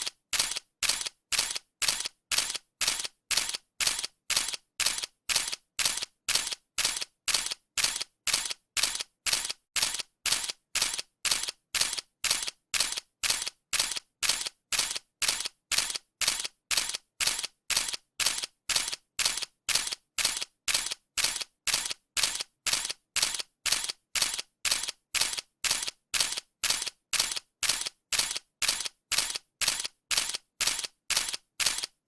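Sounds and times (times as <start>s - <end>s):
camera shutter clicking: 0.4s - 32.0s.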